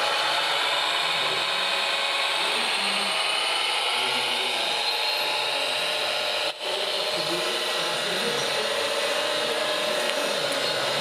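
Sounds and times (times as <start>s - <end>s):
small electric motors whining: 0.0s - 11.0s
busy background noise: 1.2s - 11.0s.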